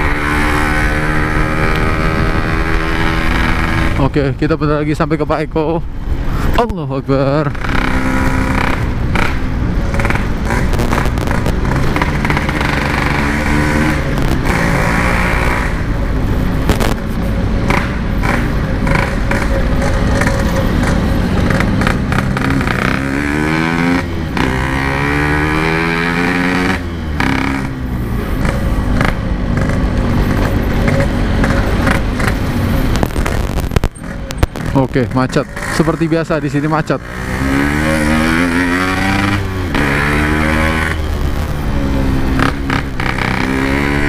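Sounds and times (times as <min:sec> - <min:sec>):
two-stroke motorcycle revving: 0:00.0 - 0:05.5, 0:06.1 - 0:44.0.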